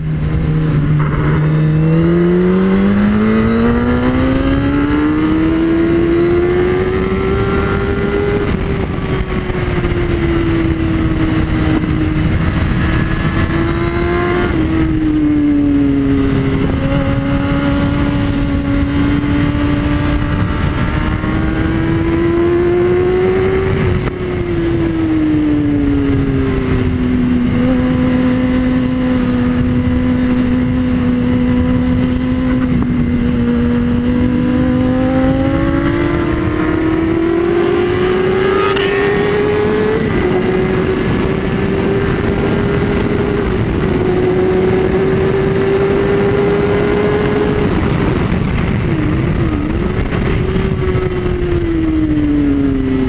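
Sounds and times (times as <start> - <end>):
motorcycle engine revving: 0.0 - 53.0
wind rush on microphone: 0.0 - 53.0.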